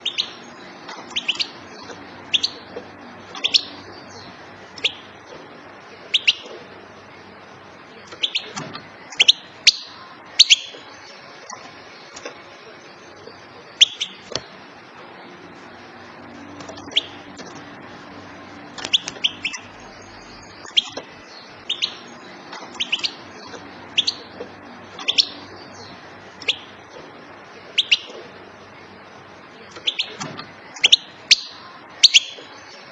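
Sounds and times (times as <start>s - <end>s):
goldfinch calling: 0.0s - 32.9s.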